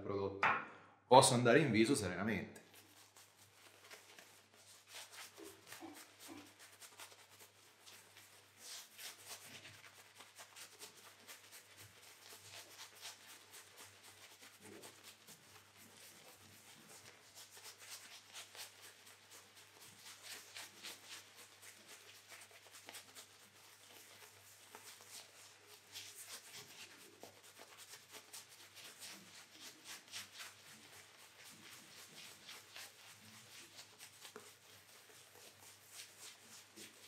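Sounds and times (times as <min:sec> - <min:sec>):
shaving brush scratching on stubble: 0:02.6 - 0:37.0.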